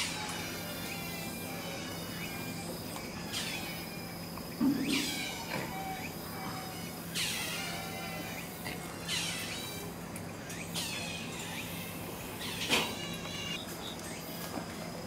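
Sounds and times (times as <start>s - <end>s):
high animal call falling in pitch: 0.0s - 13.6s.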